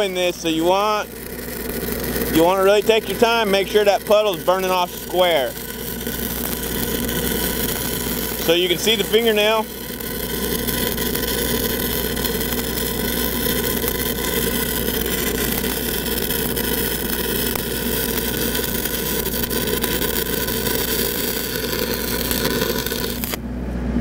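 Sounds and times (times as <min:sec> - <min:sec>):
welding arc frying crackle: 0:00.0 - 0:23.4
welding machine engine drone: 0:00.0 - 0:24.0.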